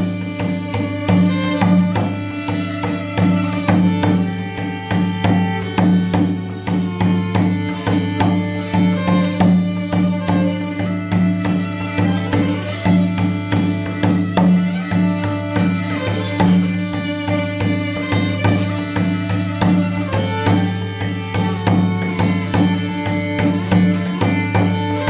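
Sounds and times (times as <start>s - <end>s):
drum strokes: 0.0s - 25.0s
pitched string lines: 0.0s - 25.0s.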